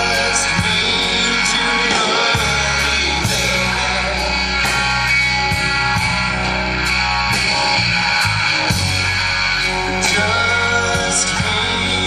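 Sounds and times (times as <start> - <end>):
bass guitar: 0.0 - 12.0
drums: 0.0 - 12.0
electric guitar: 0.0 - 12.0.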